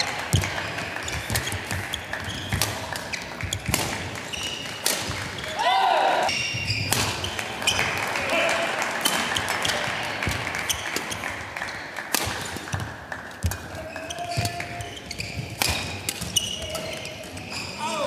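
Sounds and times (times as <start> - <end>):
rackets hitting shuttlecock: 0.0 - 5.6, 6.2 - 8.0, 9.0 - 17.7.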